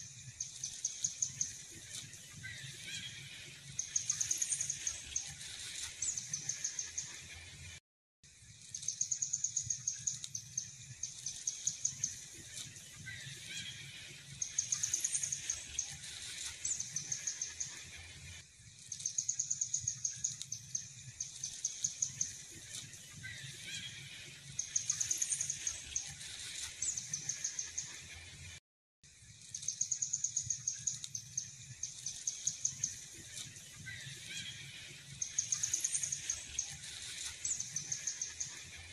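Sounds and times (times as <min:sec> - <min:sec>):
bird chirps: 0:00.0 - 0:07.4, 0:08.6 - 0:17.9, 0:18.8 - 0:28.0, 0:29.4 - 0:38.9.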